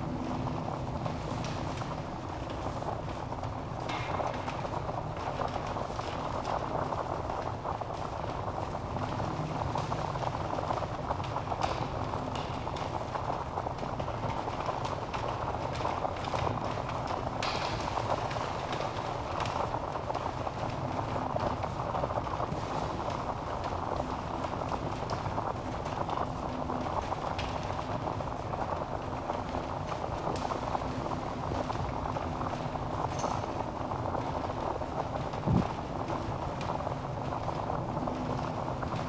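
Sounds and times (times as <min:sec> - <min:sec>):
log fire crackling and popping: 0:03.4 - 0:39.0.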